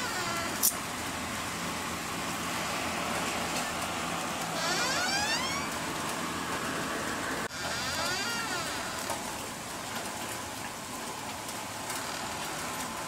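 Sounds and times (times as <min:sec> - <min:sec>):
rain falling on trees: 0:00.0 - 0:13.0.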